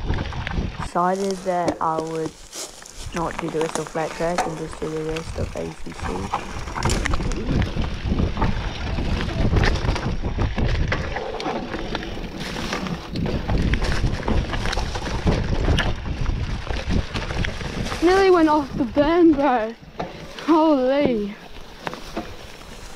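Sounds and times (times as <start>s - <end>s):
bike tyres rumbling over dirt: 0.0s - 22.9s
wind buffeting microphone: 0.0s - 22.9s.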